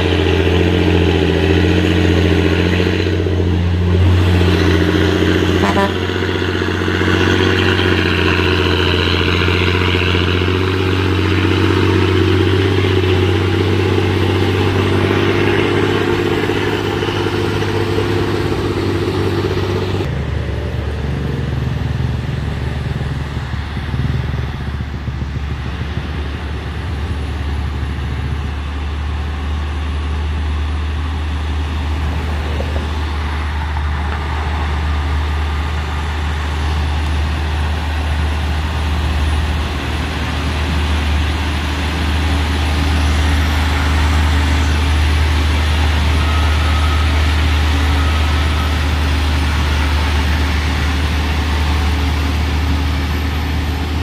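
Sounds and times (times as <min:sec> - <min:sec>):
higher engine note: 0:00.0 - 0:54.0
truck engine rumbling: 0:00.0 - 0:54.0.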